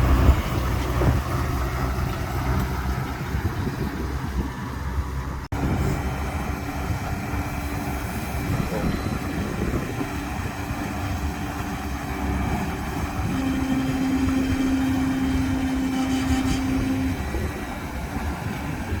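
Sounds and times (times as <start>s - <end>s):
tractor engine and baler rumble: 0.0s - 19.0s.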